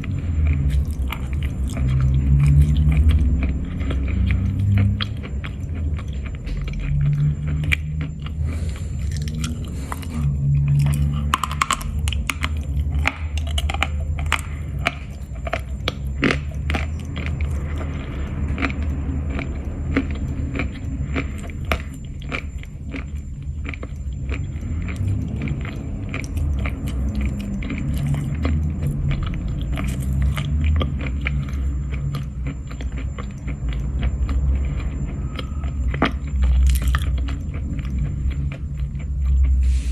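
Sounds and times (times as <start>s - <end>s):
mouth chewing: 0.0s - 39.9s.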